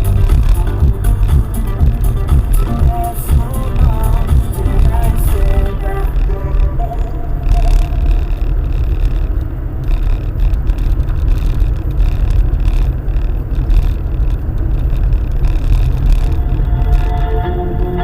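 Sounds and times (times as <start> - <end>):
engine and road noise rumble: 0.0 - 18.0.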